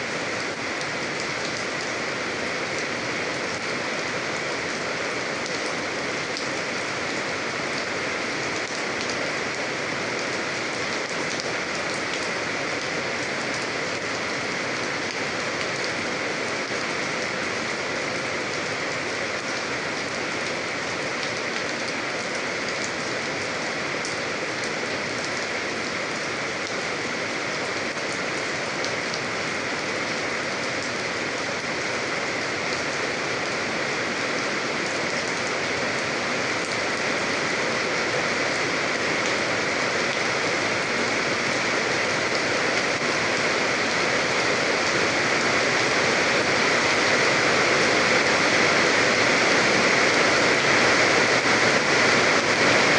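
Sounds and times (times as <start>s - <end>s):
steady rain patter: 0.0s - 52.9s.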